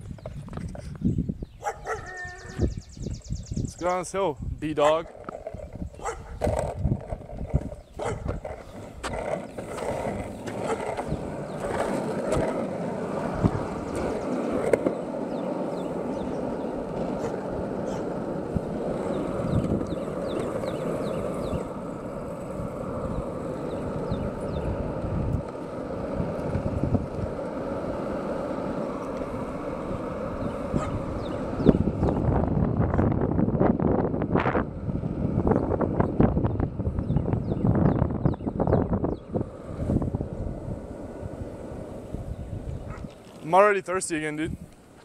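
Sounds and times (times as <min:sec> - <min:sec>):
longboard wheels rolling on asphalt: 0:00.0 - 0:45.0.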